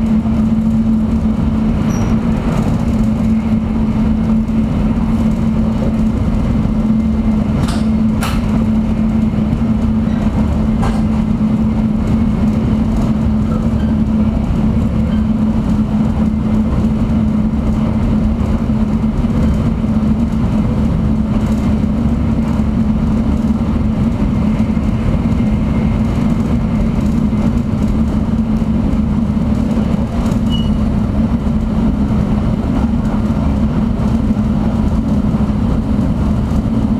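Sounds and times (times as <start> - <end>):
train rumble at speed: 0.0 - 36.9.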